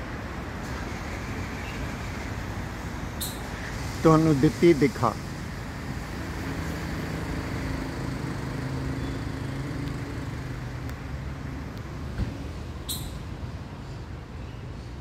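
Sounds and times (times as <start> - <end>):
engine hum: 0.0 - 15.0
traffic rumble: 0.0 - 15.0.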